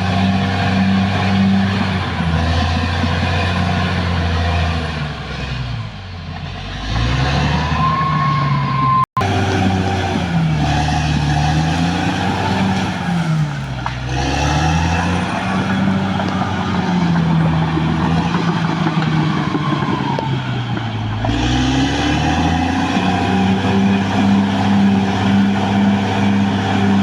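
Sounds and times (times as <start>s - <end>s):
bulldozer diesel engine under load: 0.0s - 27.0s.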